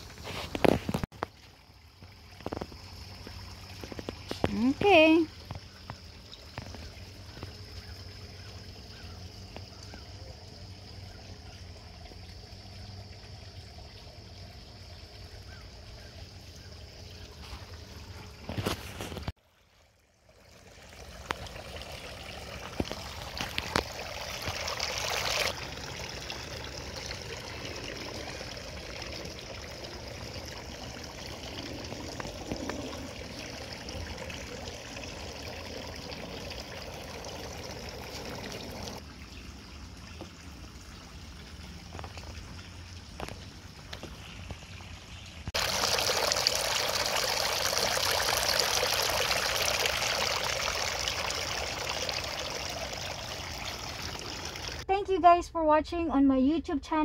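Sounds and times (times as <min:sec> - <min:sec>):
fountain water trickling and splashing: 0:00.0 - 0:55.4.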